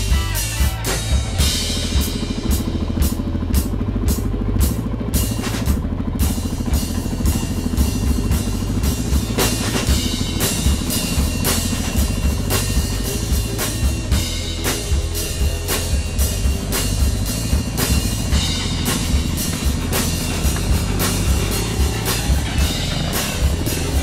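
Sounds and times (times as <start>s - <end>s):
rock music with drums and bass: 0.0s - 24.0s.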